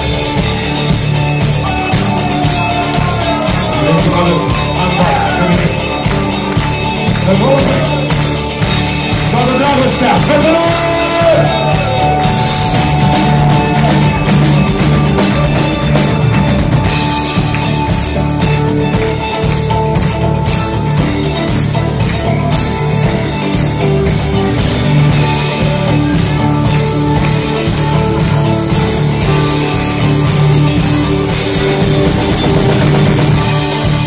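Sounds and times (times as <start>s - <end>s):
bass guitar: 0.0s - 34.0s
drum kit with cymbals: 0.0s - 34.0s
electric guitars: 0.0s - 34.0s.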